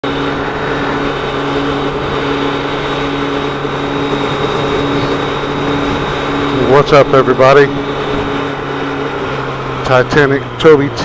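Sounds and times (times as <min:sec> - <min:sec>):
motorcycle engine running steadily: 0:00.0 - 0:11.0
wind or road noise: 0:00.0 - 0:11.0.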